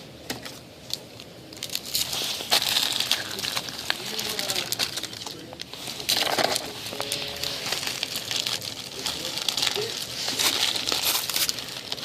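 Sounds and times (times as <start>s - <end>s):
foil wrapper crinkling: 0.8s - 12.0s.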